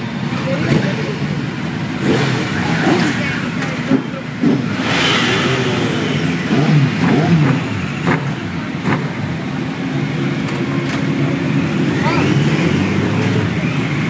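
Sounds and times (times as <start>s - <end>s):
motorcycle engine revving: 0.0s - 14.0s
motorcycle engines idling: 0.0s - 14.0s.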